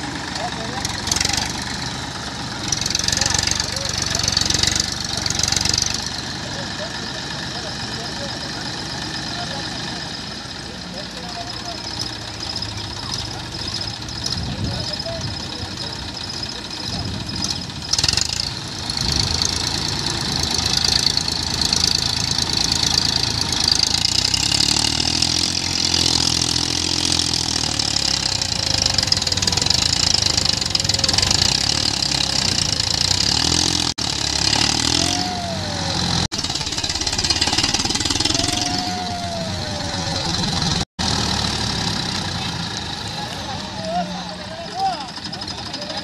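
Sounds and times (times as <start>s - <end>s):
tractor diesel engine under load: 0.0s - 46.0s.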